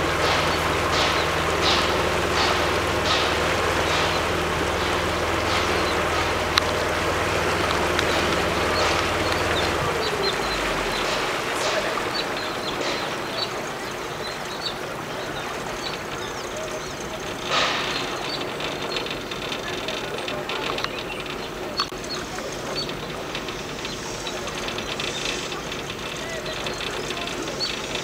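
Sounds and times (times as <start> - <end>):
boat motor running: 0.0 - 28.0
water sloshing and lapping: 0.0 - 28.0.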